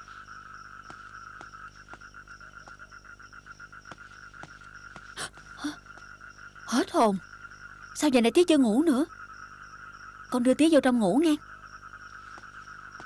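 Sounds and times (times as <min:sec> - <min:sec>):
frogs and insects trilling: 0:00.0 - 0:13.0.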